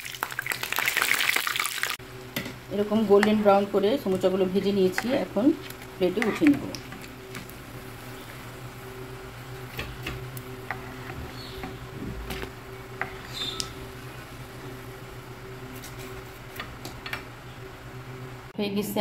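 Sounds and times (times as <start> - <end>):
hot oil crackling: 0.0 - 17.4
steady low hum: 2.0 - 19.0.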